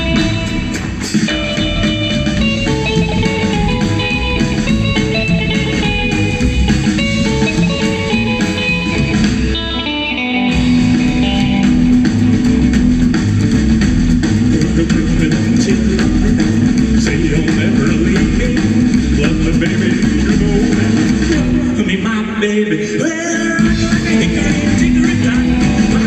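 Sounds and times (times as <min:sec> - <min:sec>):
electric guitar lead line: 0:00.0 - 0:26.0
rockabilly band playing: 0:00.0 - 0:26.0.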